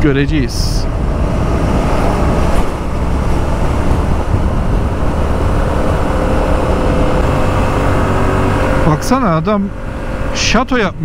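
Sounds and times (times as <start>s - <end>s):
wind rushing over microphone: 0.0s - 11.0s
motorcycle engine running: 0.8s - 11.0s.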